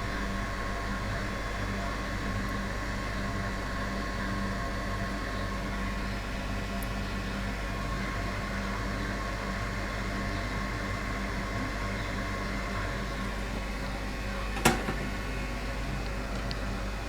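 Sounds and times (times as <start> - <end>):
fan whirring: 0.0 - 17.0
low electrical hum: 0.0 - 17.0.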